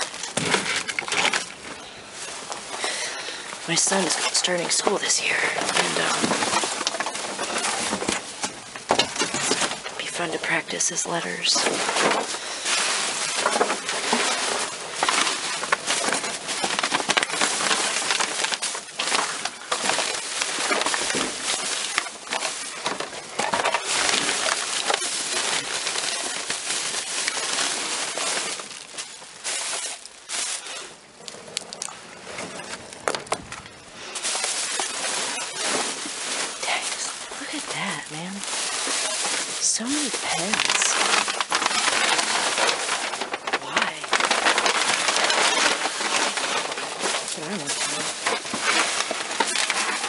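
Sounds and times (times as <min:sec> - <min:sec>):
plastic packaging rustling: 0:00.0 - 0:50.0
small items clattering: 0:00.0 - 0:50.0.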